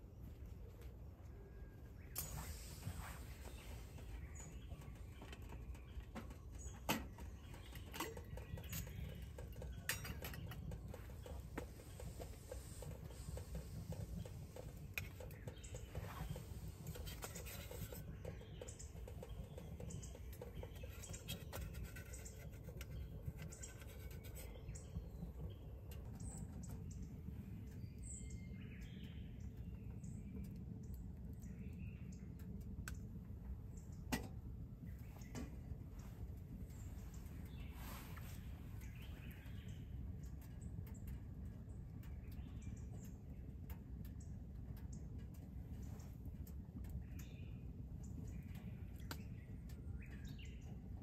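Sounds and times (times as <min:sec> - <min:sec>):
low steady rumble: 0:00.0 - 0:51.0
birds chirping: 0:00.2 - 0:34.1, 0:34.8 - 0:50.9.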